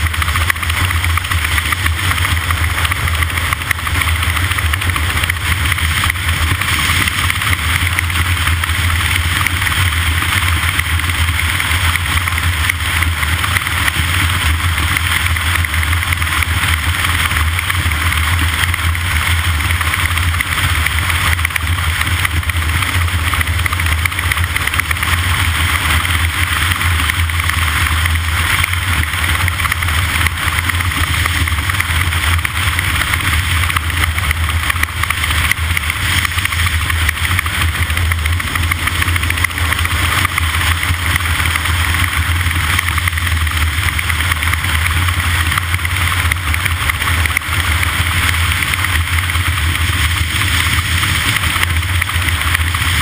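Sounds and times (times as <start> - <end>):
low engine drone: 0.0 - 53.0.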